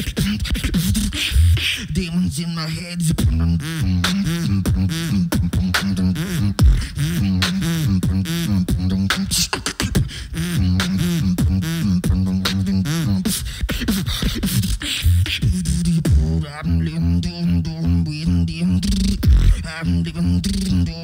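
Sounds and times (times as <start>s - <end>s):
vocal beatboxing: 0.0s - 21.0s.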